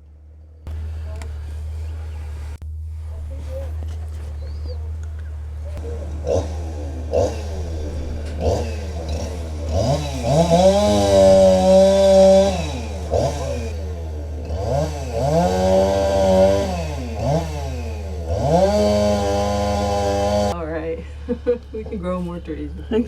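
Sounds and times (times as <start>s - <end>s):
chainsaw engine revving: 0.0s - 22.2s
low drone: 0.0s - 23.0s.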